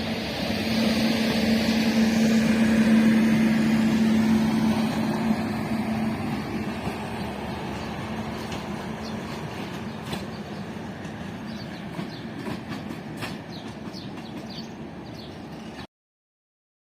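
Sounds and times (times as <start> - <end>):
train wheels clicking on rails: 0.0 - 15.8.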